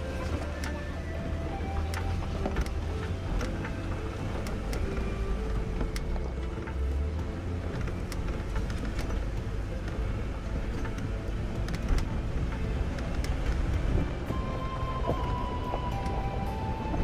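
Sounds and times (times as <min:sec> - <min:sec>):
engine and tyres rumbling on dirt: 0:00.0 - 0:17.0.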